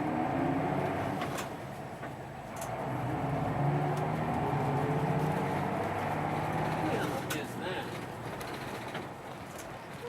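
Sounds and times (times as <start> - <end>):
vehicle engine droning: 0.0 - 9.2.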